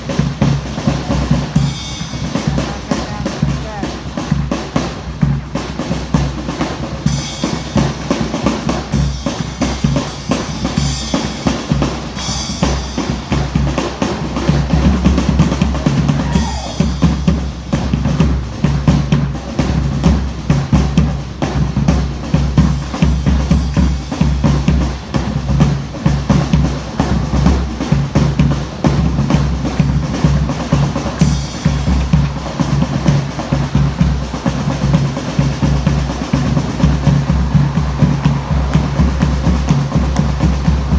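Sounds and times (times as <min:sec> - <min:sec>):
bass drum and snare drumming: 0:00.0 - 0:40.9.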